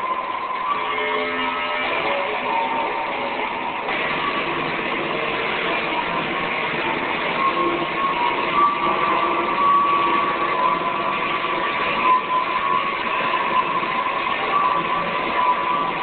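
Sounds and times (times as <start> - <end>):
hissing electronic drone: 0.0 - 16.0.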